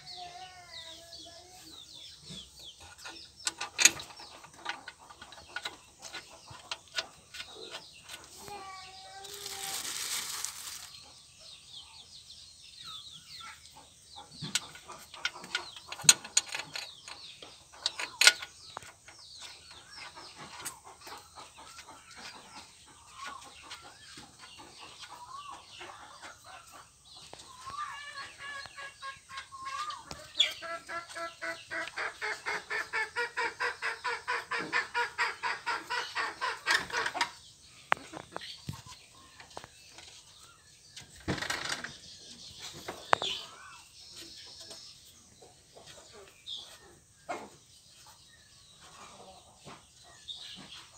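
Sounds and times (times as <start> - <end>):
chicken clucking: 0.0 - 50.9.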